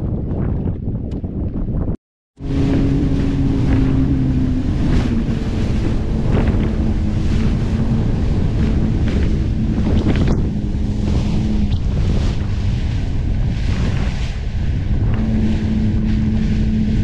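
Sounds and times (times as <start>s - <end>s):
wind noise on microphone: 0.0s - 17.0s
jet ski engine running: 2.4s - 17.0s
water spray splashing: 2.5s - 17.0s.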